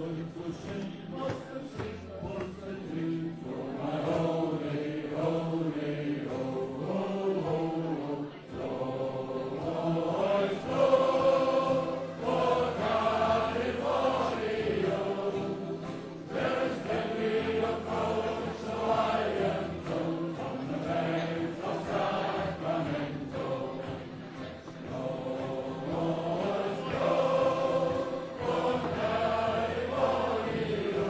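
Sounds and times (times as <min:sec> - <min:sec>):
male choir singing: 0:00.0 - 0:31.0.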